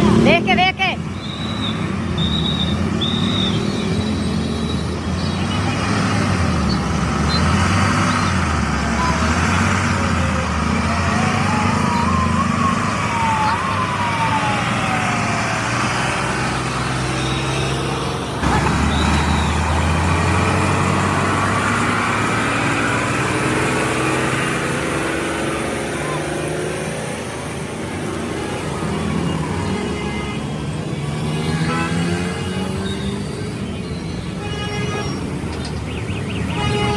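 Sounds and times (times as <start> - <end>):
heavy truck engine running: 0.0 - 31.1.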